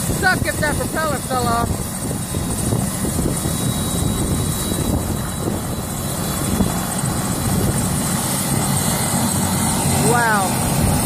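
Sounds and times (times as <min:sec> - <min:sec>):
helicopter rotor turning: 0:00.0 - 0:11.0.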